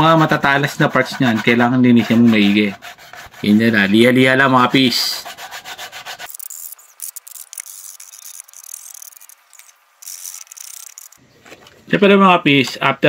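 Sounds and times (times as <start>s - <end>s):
sandpaper scratching on plastic: 0.0s - 11.2s.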